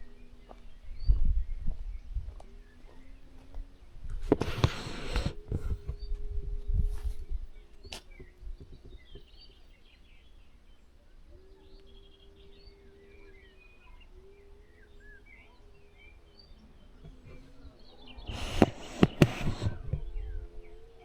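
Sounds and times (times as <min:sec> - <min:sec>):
faint steady low hum: 0:00.0 - 0:21.0
songbirds chirping and whistling: 0:00.0 - 0:21.0.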